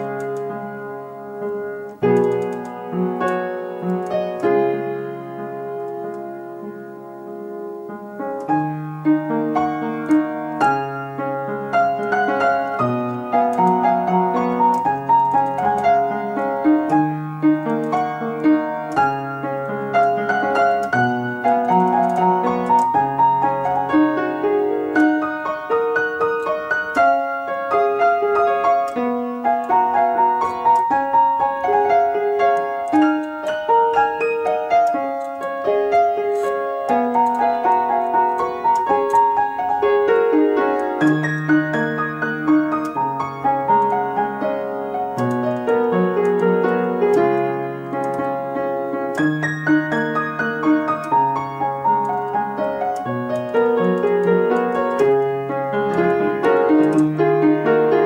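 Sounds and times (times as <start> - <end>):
piano melody: 0.0 - 58.0.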